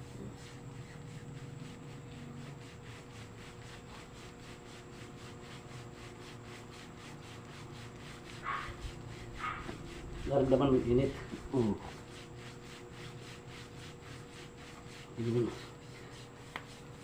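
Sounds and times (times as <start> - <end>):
hands rubbing oiled skin: 0.0 - 17.0.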